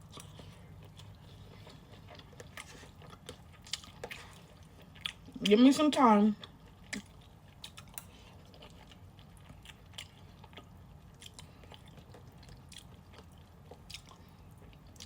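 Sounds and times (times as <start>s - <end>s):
person chewing food: 0.0s - 5.5s, 6.4s - 15.0s.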